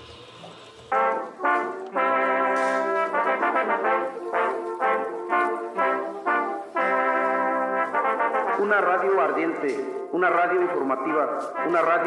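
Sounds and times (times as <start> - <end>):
brass band playing chords: 0.0 - 12.0.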